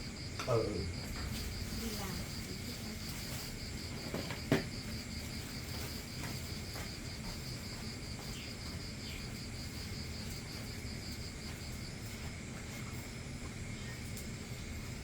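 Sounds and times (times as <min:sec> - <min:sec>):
faint insect hum: 0:00.0 - 0:15.0
insect chirping: 0:00.0 - 0:15.0.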